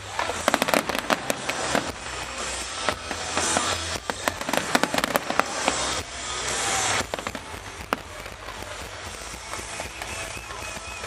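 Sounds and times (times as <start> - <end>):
fireworks bangs: 0.0 - 11.0
fireworks crackling hiss: 0.0 - 11.0
scattered fireworks pops: 0.0 - 11.0.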